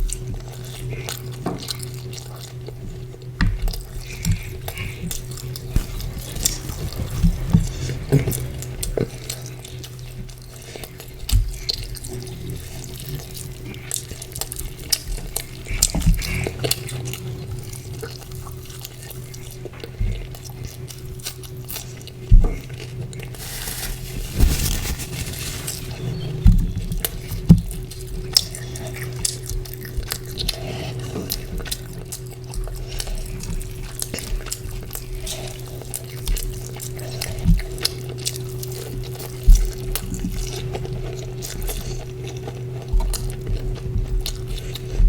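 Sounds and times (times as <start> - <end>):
steady low hum: 0.0 - 45.0
wet chewing and squelching: 0.0 - 45.0.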